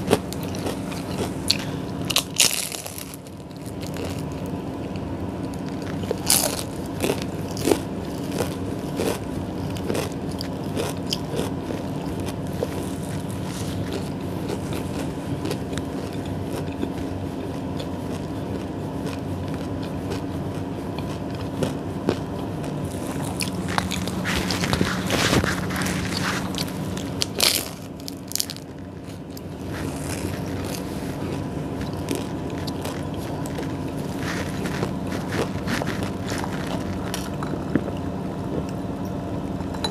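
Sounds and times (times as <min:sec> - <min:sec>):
crunchy chewing: 0:00.0 - 0:39.0
steady low hum: 0:00.0 - 0:39.9.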